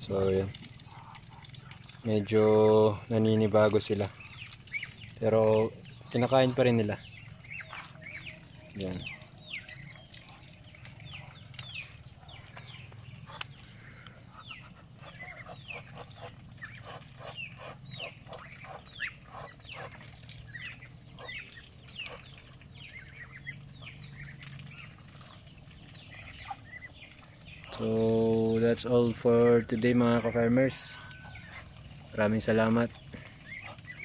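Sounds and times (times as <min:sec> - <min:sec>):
duck bills clicking in feed: 0:00.0 - 0:34.0
ducks peeping: 0:00.1 - 0:34.0.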